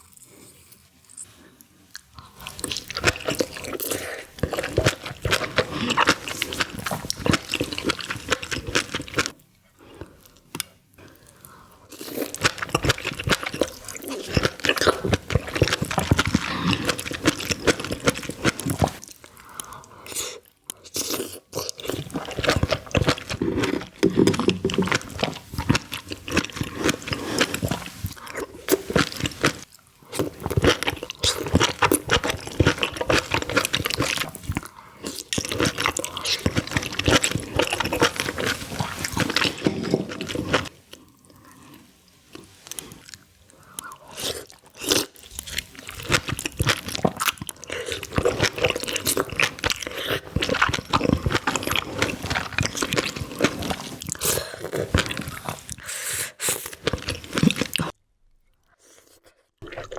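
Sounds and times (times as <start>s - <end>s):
chewing and mouth sounds: 0.0s - 59.9s.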